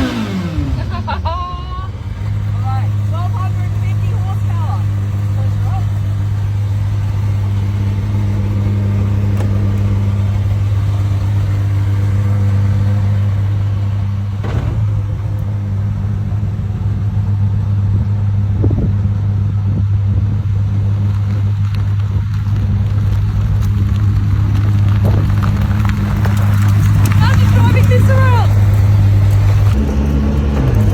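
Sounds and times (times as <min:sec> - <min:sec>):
car engine running steadily: 0:00.0 - 0:30.9.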